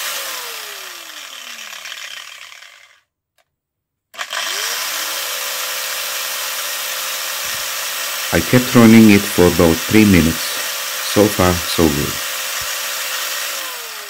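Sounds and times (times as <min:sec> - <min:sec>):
electric grinder whine: 0:00.0 - 0:03.1, 0:04.2 - 0:14.0.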